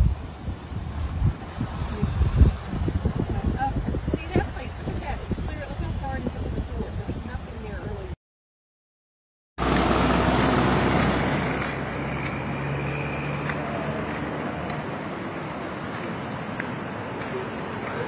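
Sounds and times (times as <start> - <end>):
floodwater rushing: 0.0 - 7.4, 9.6 - 18.0.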